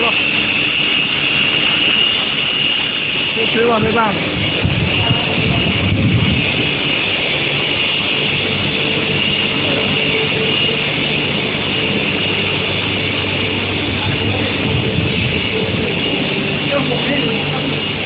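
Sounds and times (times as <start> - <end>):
high machinery whine: 0.0 - 18.0
industrial machinery hum: 0.0 - 18.0.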